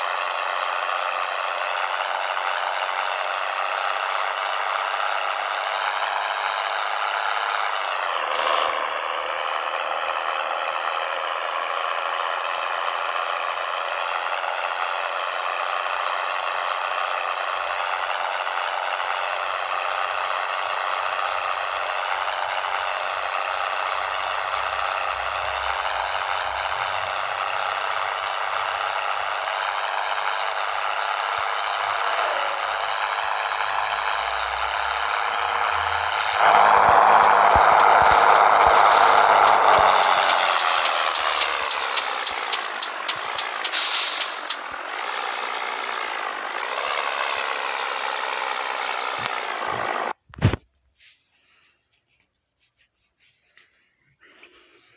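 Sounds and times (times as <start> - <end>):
truck diesel engine running: 0.0 - 50.2.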